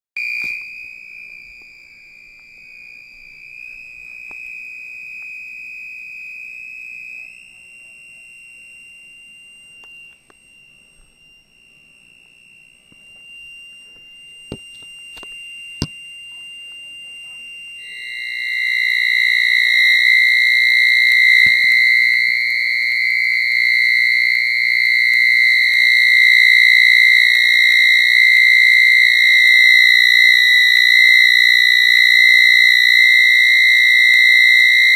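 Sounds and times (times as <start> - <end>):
microwave high-pitched electronic tone: 0.2 - 34.9.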